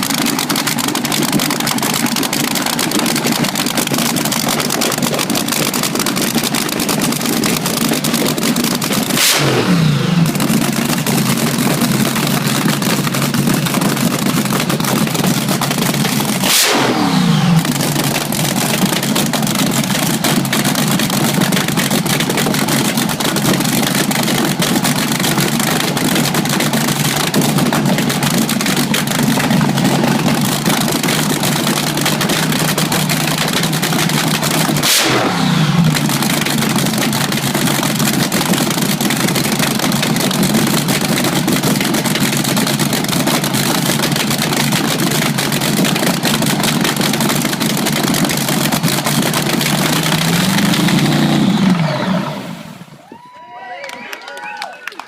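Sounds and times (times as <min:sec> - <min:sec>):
race car engine revving: 0:00.0 - 0:52.9
race car engine idling: 0:00.0 - 0:53.0.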